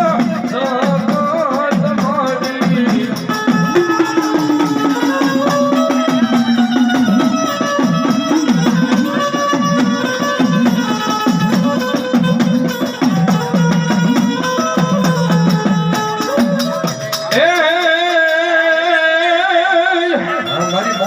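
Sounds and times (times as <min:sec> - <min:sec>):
drum rhythm with rattles: 0:00.0 - 0:21.0.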